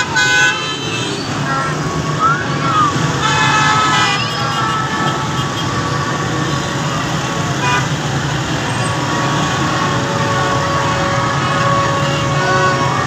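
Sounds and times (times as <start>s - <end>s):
car horns sounding: 0.0s - 2.3s, 2.9s - 13.0s
road traffic: 0.0s - 13.0s.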